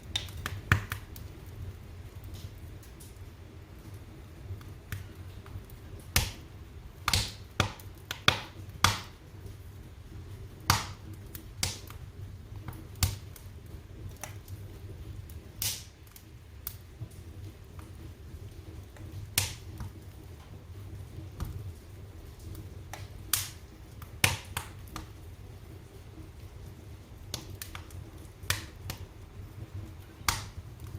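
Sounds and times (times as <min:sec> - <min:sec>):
low rumble of flames: 0:00.0 - 0:30.9
wood fire pops and snaps: 0:00.0 - 0:30.9.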